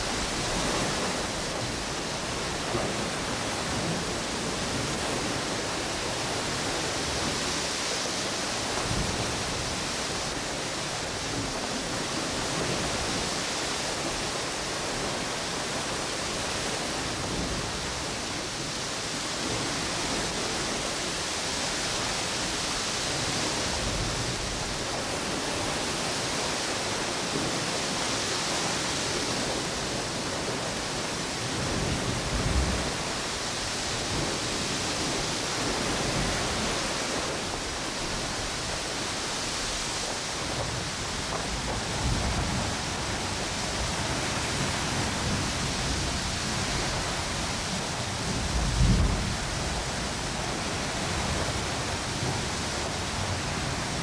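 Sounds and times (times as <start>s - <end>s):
ocean waves washing onto beach: 0.0s - 54.0s
wind through palm trees: 0.0s - 54.0s.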